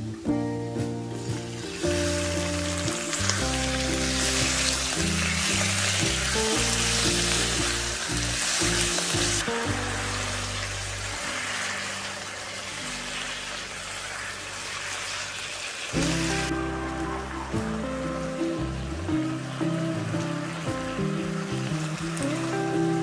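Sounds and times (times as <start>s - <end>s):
food sizzling in hot oil: 1.1s - 23.0s.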